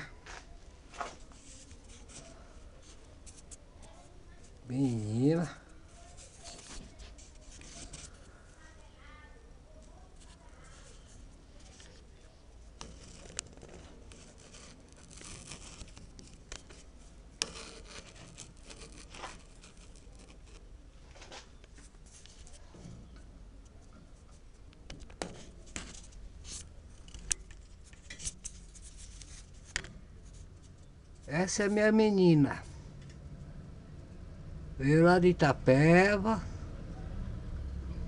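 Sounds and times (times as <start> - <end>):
faint rustles: 0.0 - 31.9
faint low hum: 0.0 - 38.0.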